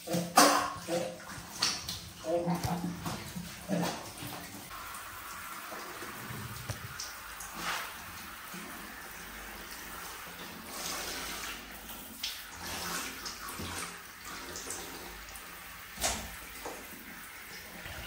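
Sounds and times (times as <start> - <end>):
bath water running and splashing: 0.0 - 18.0.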